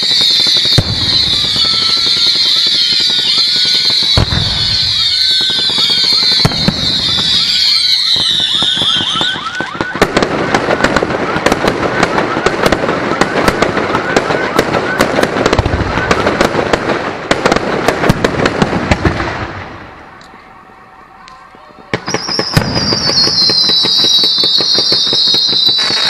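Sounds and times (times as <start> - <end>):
firework booms: 0.0 - 20.8, 21.7 - 26.0
crackling firework bangs: 0.0 - 20.9, 21.5 - 26.0
firework whistles: 0.0 - 26.0.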